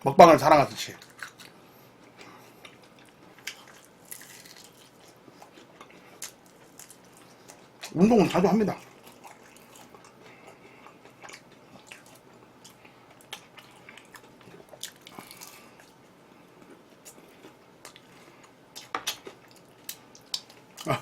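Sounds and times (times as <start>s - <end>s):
person chewing: 0.9s - 21.0s.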